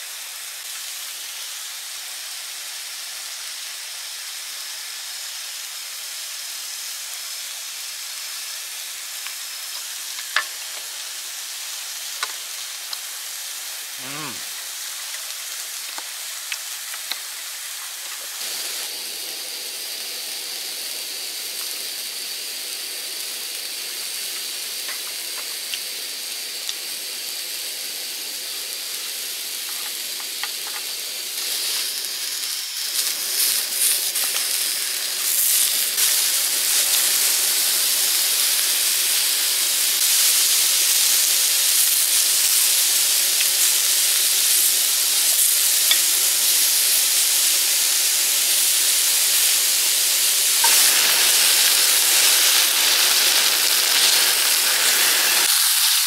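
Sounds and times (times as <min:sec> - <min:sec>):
ribs sizzling on a grill: 0:00.0 - 0:56.0.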